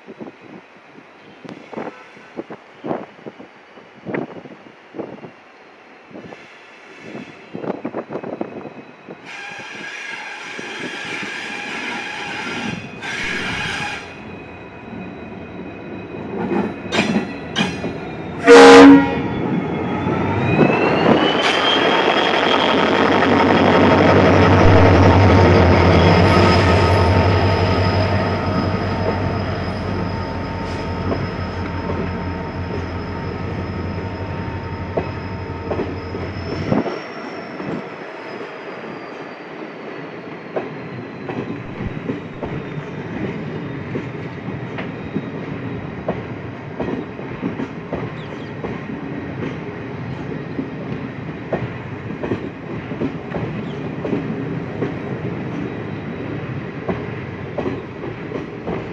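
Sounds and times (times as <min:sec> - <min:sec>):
train wheels squealing on curve: 0:01.2 - 0:03.4, 0:06.1 - 0:46.0, 0:48.0 - 0:50.9, 0:53.2 - 0:56.5
diesel locomotive engine hum: 0:10.2 - 0:58.9.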